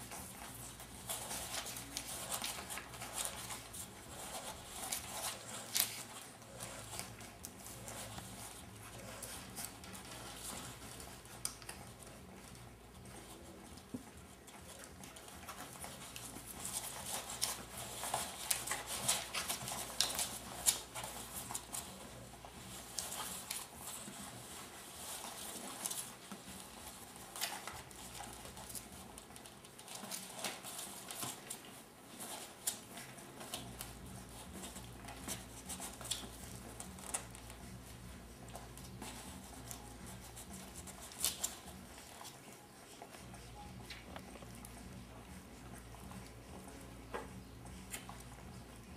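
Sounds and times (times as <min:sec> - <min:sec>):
puppies suckling smacking: 0:00.0 - 0:48.9.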